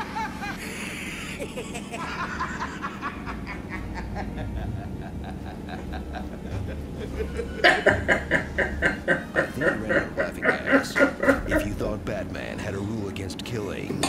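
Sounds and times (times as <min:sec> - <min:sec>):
man laughing: 0:00.0 - 0:12.8.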